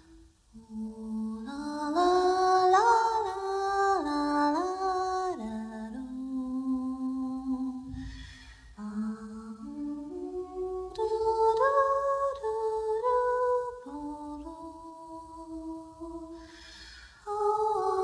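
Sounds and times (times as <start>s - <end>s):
wordless vocal melody: 0.0s - 18.0s.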